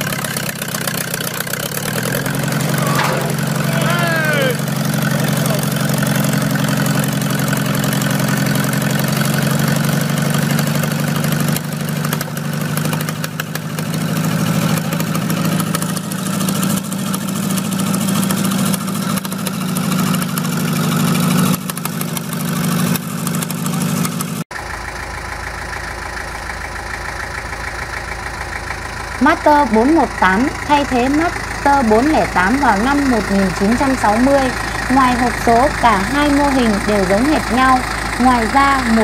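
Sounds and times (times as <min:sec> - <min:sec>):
tractor engine idling: 0:00.0 - 0:39.0
tractor engine running hard: 0:00.0 - 0:39.0.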